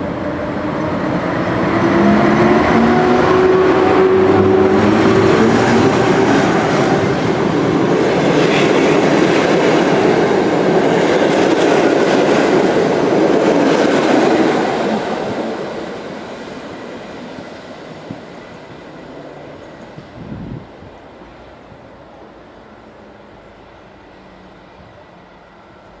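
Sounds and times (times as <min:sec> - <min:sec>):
train carriages rolling past: 0:00.0 - 0:26.0.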